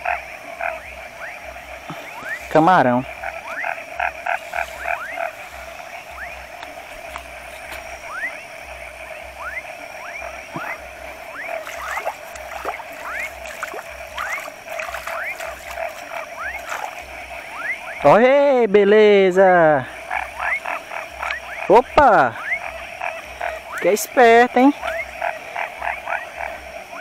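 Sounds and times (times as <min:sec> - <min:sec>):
frog whistled calls: 0:00.0 - 0:18.8, 0:19.8 - 0:27.0
frog chorus droning: 0:00.0 - 0:27.0
pulsed frog calls: 0:00.0 - 0:27.0.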